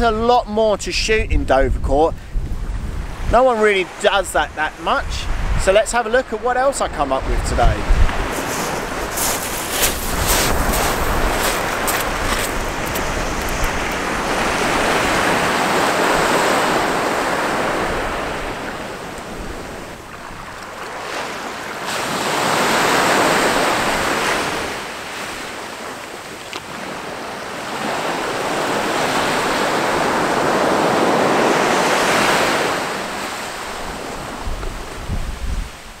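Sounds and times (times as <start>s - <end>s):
sea surf washing onto beach: 2.6s - 36.0s.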